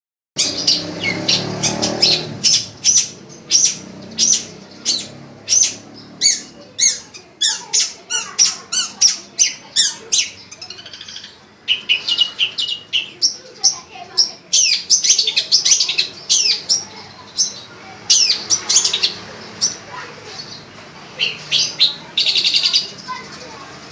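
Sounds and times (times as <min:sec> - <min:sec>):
songbird singing varied notes: 0:00.4 - 0:23.6.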